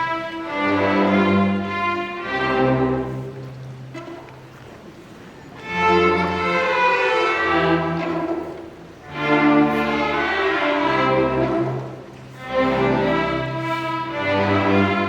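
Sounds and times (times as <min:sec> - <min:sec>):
string section playing chords: 0:00.0 - 0:15.0.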